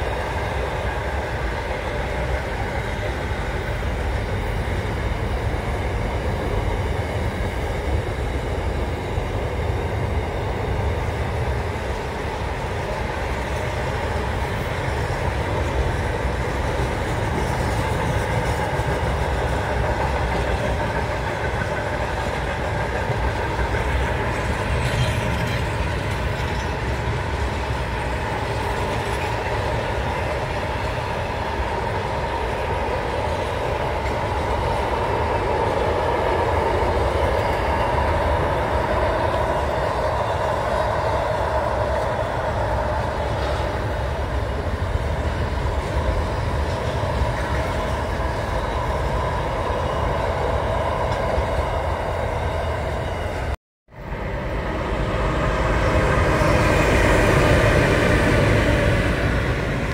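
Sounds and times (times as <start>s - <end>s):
train approaching: 0.0s - 59.9s
train wheels on rails: 0.0s - 59.9s.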